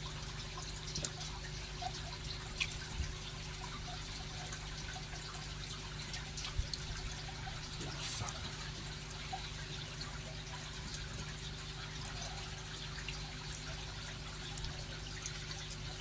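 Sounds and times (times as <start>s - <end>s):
low steady hum: 0.0s - 16.0s
water splashing and dripping: 0.0s - 16.0s.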